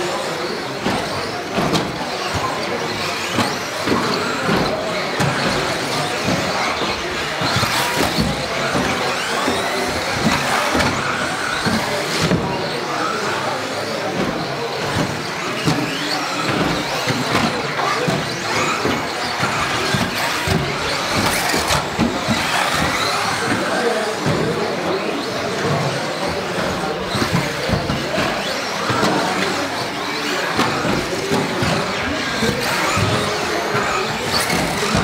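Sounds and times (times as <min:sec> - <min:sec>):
electric toy car motors whining: 0:00.0 - 0:35.0.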